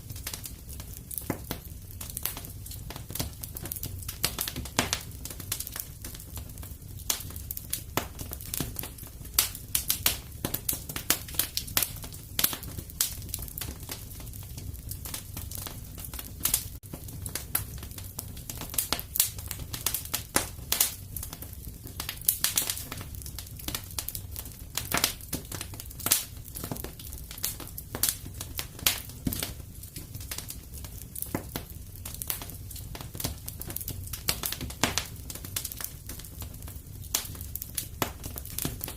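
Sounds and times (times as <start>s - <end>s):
wood fire crackling in fireplace: 0.0s - 38.9s.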